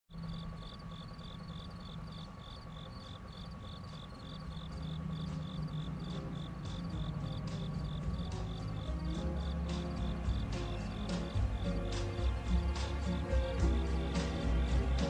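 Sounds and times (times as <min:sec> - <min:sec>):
crickets chirping: 0:00.1 - 0:15.0
low steady hum: 0:00.1 - 0:15.0.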